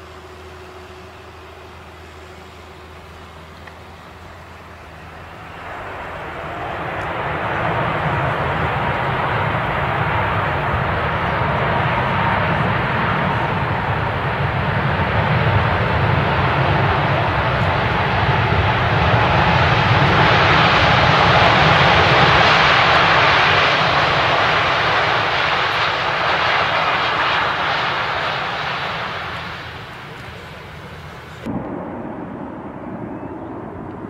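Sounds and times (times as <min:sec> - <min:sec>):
jet engines on landing roll: 0:00.0 - 0:34.0.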